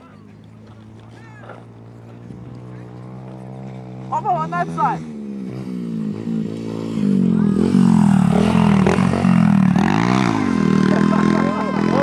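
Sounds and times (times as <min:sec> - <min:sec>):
motorbike engines revving: 0:00.0 - 0:12.0.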